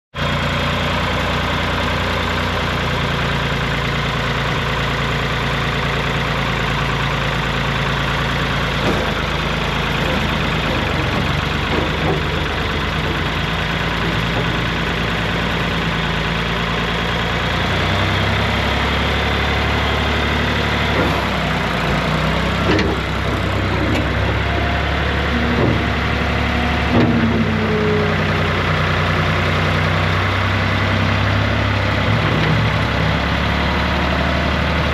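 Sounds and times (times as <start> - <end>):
tractor engine idling: 0.2 - 34.9.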